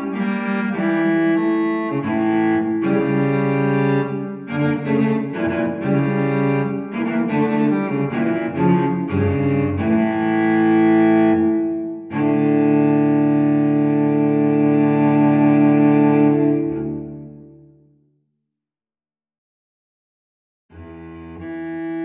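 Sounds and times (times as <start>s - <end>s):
solo cello: 0.0s - 17.8s, 20.7s - 22.0s.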